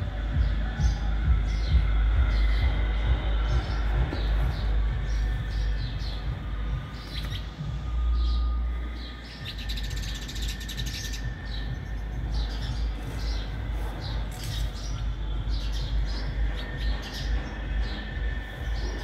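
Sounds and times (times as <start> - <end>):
low rumble: 0.0 - 19.0
small birds chirping: 0.0 - 19.0.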